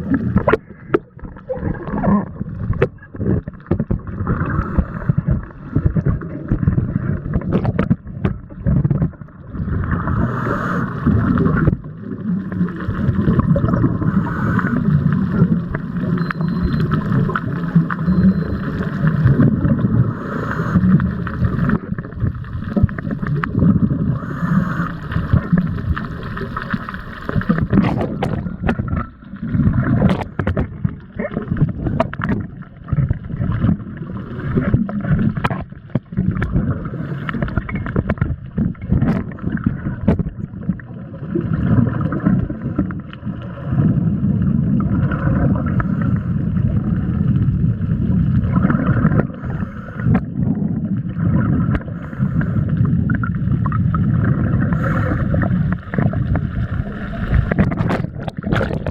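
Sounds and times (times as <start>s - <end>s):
muffled water sloshing: 0.0s - 58.9s.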